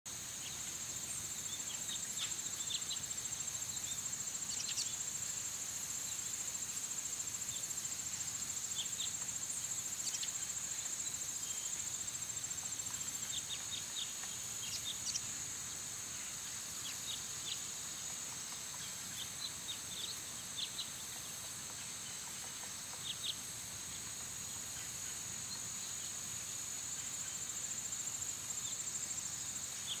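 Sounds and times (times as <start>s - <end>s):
insects trilling: 0.1s - 30.0s.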